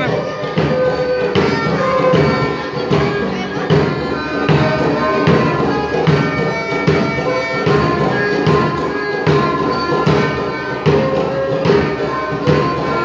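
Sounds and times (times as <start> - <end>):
steady percussion beat: 0.0 - 13.0.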